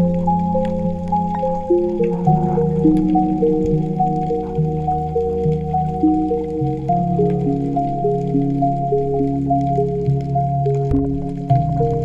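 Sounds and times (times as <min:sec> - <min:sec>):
background music with held notes: 0:00.0 - 0:12.0
steady low bass: 0:00.0 - 0:12.0.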